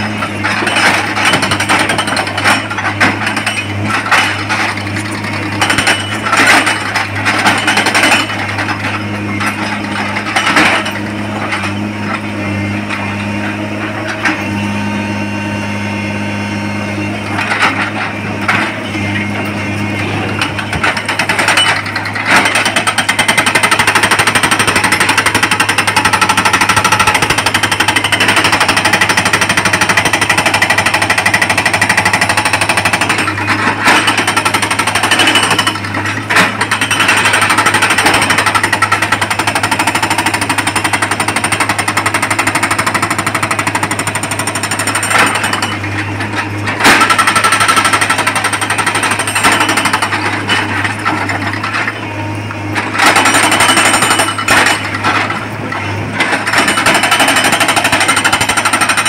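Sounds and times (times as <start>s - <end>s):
hydraulic rock breaker hammering: 0.0s - 15.4s, 16.0s - 59.0s
excavator engine humming: 0.0s - 59.0s.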